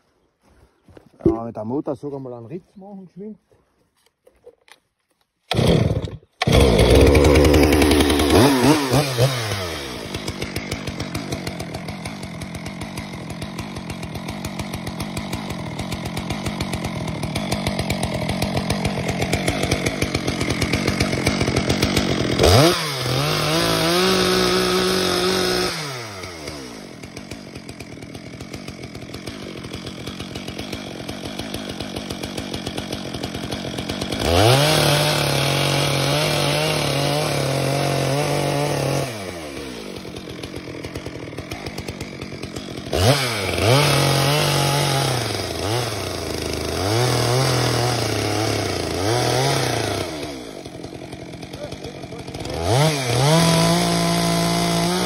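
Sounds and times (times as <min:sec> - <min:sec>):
chainsaw idling and revving: 0:05.4 - 0:55.0.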